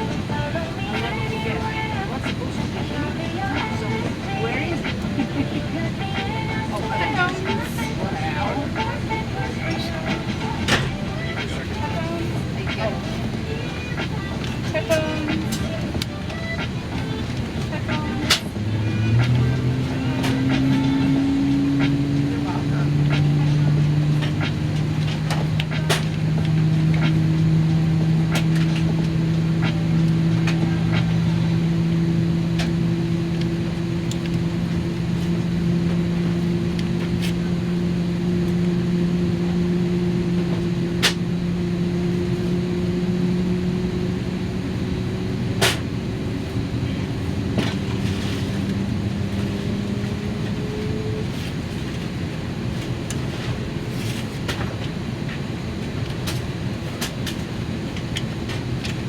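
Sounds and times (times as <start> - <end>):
airliner cabin hum: 0.0 - 59.0.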